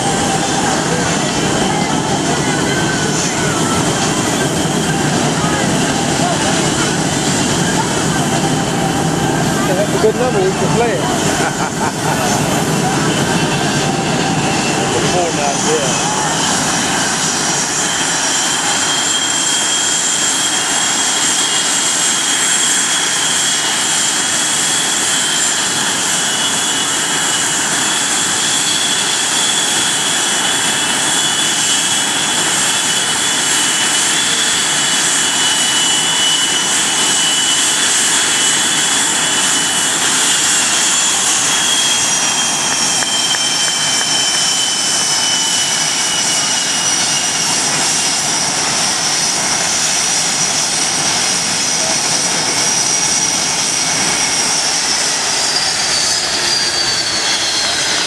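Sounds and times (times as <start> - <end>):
jet engine rushing roar: 0.0 - 58.0
jet engine turbine whine: 0.0 - 58.0.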